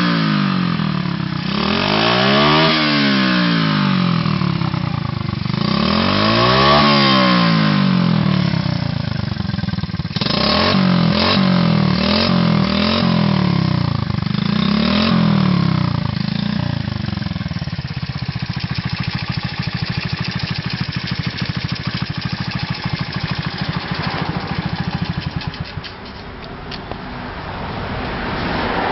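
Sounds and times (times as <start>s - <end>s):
small motorcycle engine revving: 0.0s - 26.8s.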